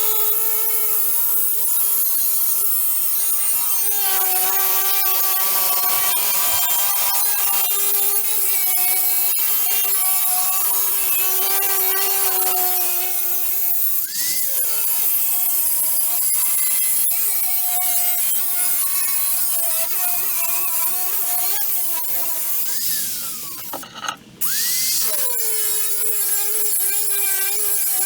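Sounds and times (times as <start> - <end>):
power tool whining on steel: 0.0 - 28.0.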